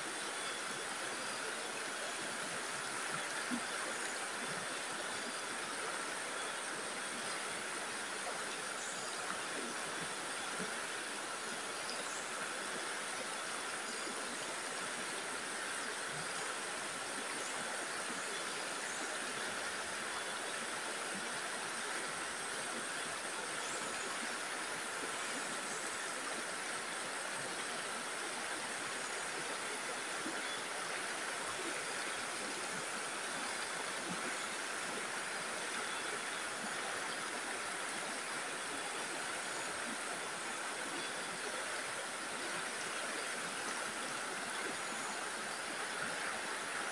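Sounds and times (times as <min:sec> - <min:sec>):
stream water rushing over rocks: 0:00.0 - 0:46.9.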